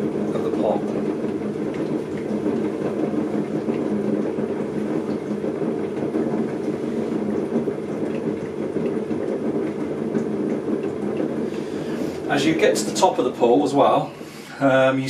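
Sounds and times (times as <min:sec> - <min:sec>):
potter's wheel humming: 0:00.0 - 0:15.0.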